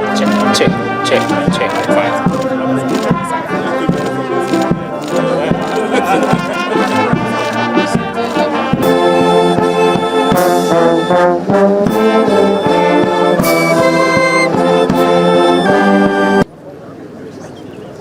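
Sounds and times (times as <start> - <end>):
brass band playing chords: 0.0 - 16.5.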